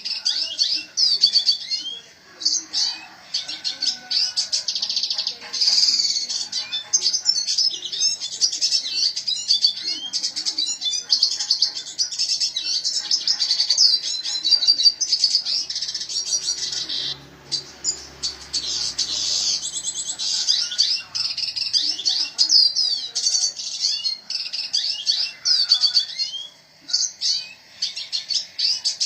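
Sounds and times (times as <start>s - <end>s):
bird singing chirps and trills: 0.0s - 29.0s.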